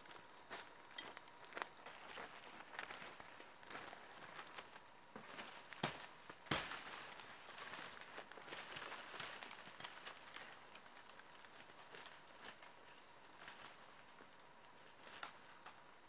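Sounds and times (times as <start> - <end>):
footsteps crunching dry leaves: 0.0 - 14.2
twigs cracking: 0.0 - 15.9.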